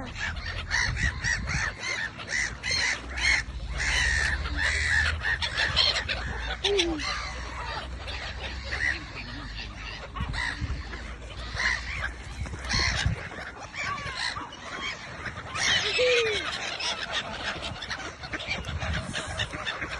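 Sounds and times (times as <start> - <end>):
ducks and birds calling: 0.0 - 19.9.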